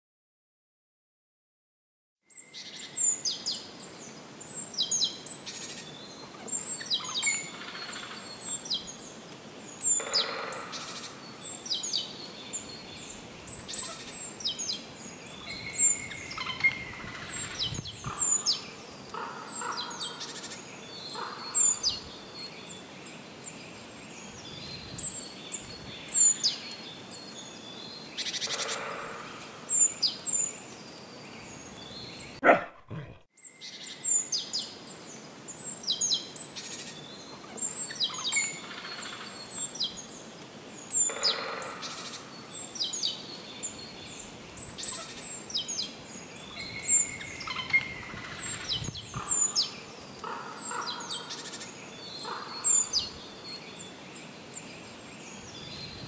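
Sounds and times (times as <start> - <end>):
birds chirping and singing: 2.3 - 56.0.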